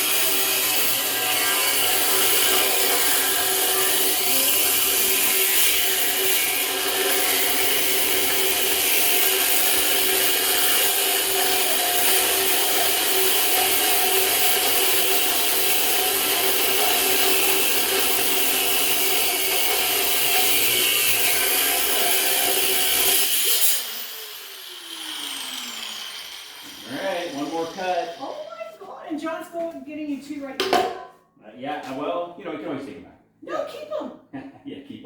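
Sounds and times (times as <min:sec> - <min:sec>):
angle grinder cutting steel: 0:00.0 - 0:28.5.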